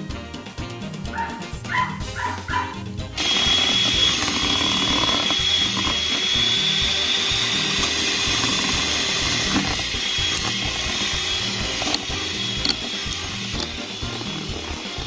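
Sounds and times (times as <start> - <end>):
electric hand mixer whining: 2.8 - 15.0.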